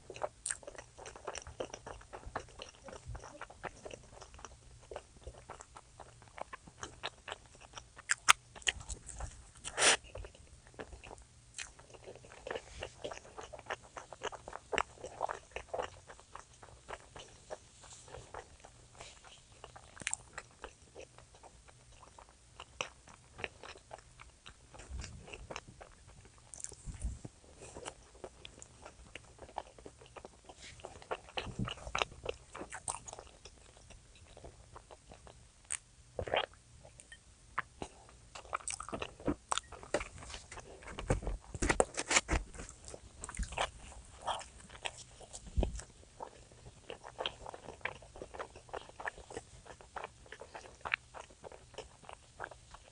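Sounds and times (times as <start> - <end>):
person chewing and crunching: 0.0 - 52.9.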